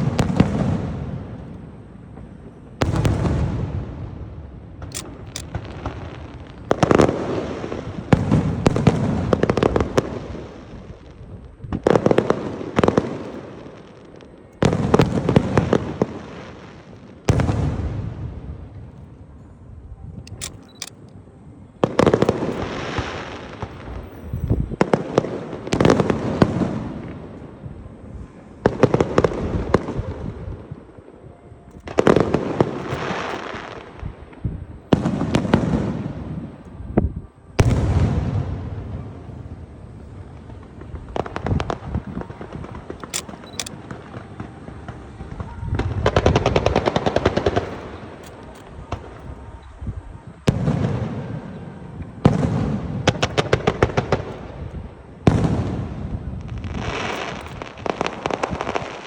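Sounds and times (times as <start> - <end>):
fireworks bangs and crackle: 0.0 - 18.9, 21.8 - 27.8, 28.6 - 30.8, 31.8 - 36.6, 37.6 - 59.0.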